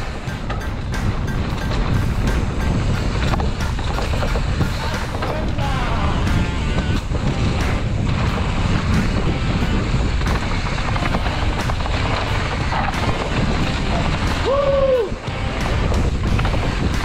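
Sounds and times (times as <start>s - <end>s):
bike knocking and rattling: 0.0s - 17.0s
bike tyres rolling on dirt: 0.0s - 17.0s
wind buffeting microphone: 0.0s - 17.0s.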